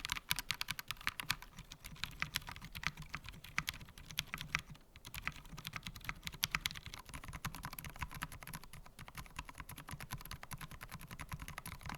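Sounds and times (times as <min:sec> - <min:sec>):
mechanical keyboard typing: 0:00.0 - 0:11.9.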